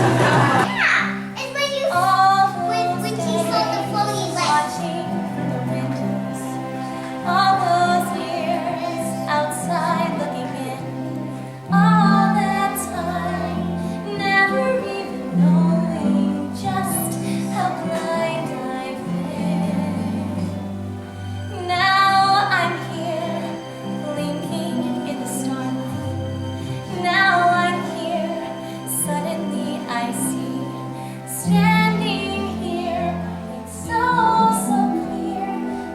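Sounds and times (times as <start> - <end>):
woman singing: 2.0 - 20.9, 21.5 - 35.9.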